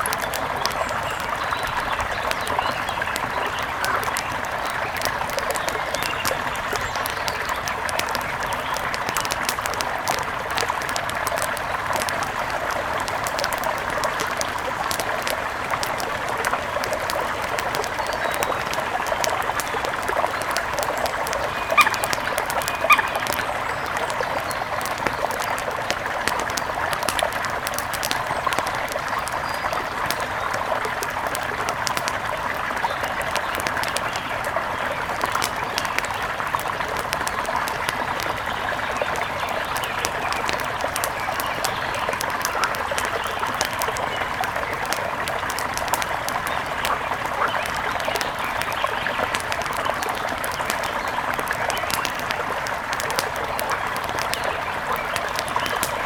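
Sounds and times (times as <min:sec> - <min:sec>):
river water flowing: 0:00.0 - 0:56.0
wood fire crackling: 0:00.0 - 0:56.0.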